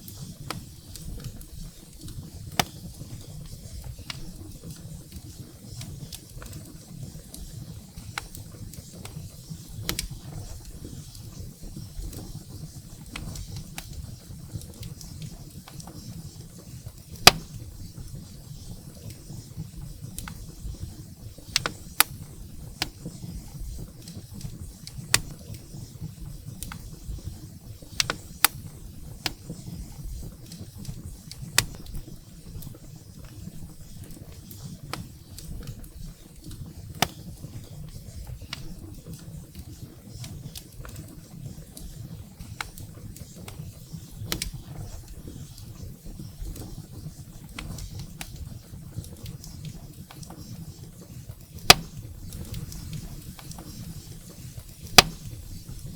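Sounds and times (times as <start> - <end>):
firewood crackling and popping: 0.0 - 55.9
low rumble of flames: 0.0 - 55.9.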